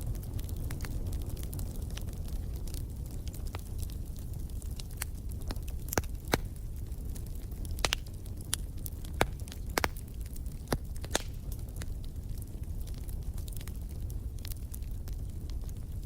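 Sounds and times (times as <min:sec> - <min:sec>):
fire crackling and popping: 0:00.0 - 0:16.0
low rumble of burning: 0:00.0 - 0:16.0.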